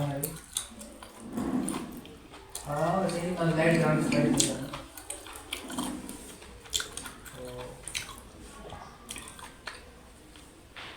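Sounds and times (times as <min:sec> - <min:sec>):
chewing and mouth sounds: 0:00.0 - 0:10.6.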